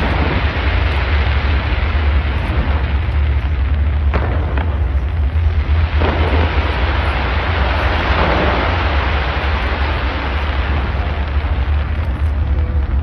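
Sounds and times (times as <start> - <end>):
deep steady boom: 0.0 - 13.0
fireworks bursts and crackle: 0.0 - 13.0
sharp fireworks cracks: 0.0 - 13.0.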